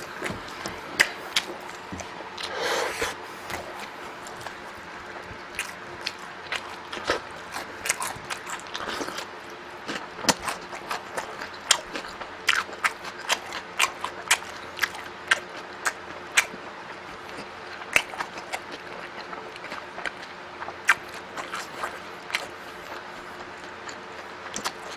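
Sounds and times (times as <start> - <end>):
person chewing food: 0.0 - 24.9.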